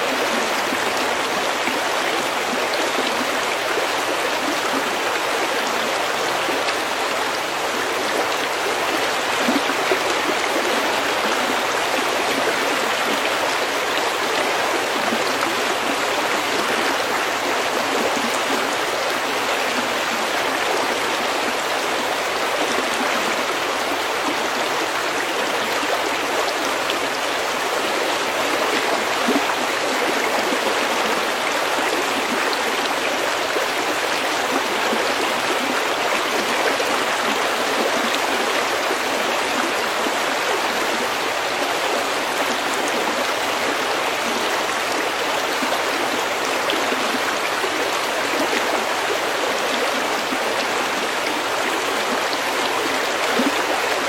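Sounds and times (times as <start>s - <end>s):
stream babbling over pebbles: 0.0s - 54.0s.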